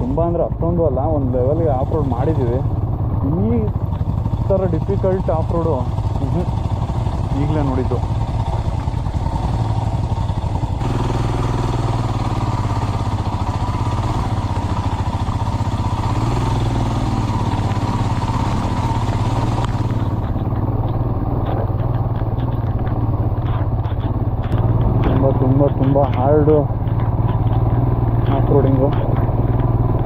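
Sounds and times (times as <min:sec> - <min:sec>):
motorcycle engine running at low revs: 0:00.0 - 0:30.0.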